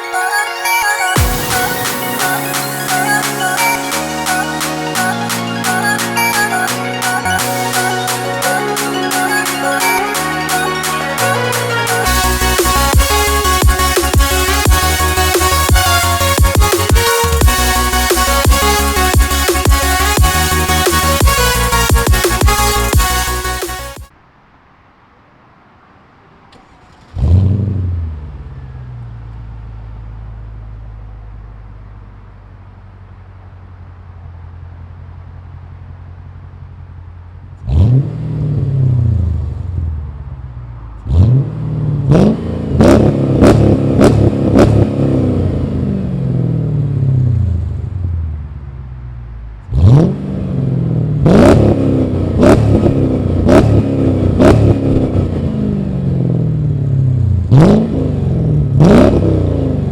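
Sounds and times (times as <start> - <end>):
car engine starting and revving: 1.2 - 24.1, 26.3 - 59.9.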